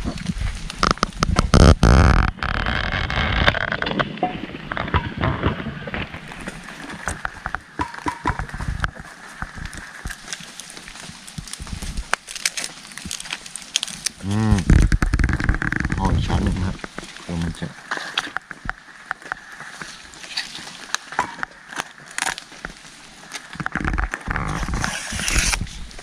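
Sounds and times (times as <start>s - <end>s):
leaves rustling and crackling: 0.0s - 26.0s.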